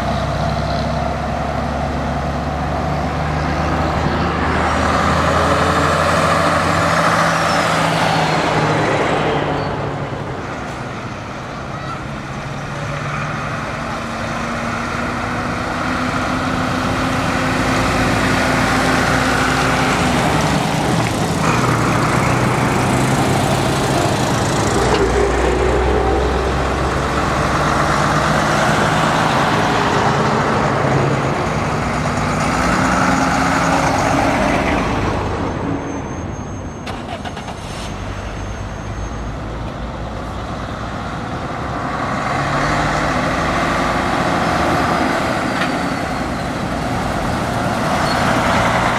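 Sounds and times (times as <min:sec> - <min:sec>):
diesel trucks driving past: 0:00.0 - 0:48.9.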